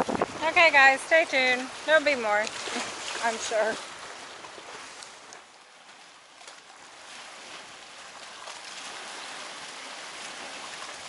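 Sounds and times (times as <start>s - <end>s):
sea water splashing against ramp: 0.0s - 11.0s.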